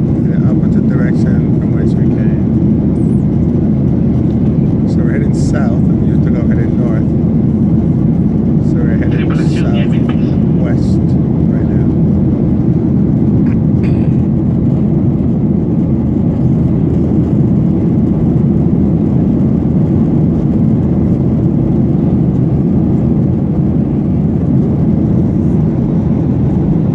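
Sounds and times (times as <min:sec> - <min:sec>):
airliner cabin roar: 0:00.0 - 0:26.9.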